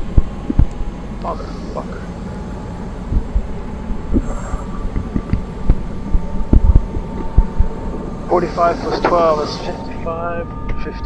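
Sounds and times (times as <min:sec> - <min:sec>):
low thumps: 0:00.0 - 0:10.9
faint high whine: 0:00.0 - 0:11.0
helicopter engine and rotor drone: 0:00.0 - 0:11.0.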